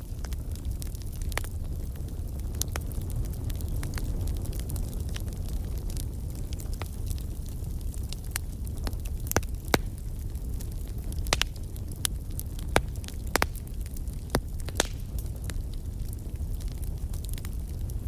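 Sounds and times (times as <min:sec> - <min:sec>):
fire pops and snaps: 0:00.0 - 0:18.0
low rumble of flames: 0:00.0 - 0:18.0.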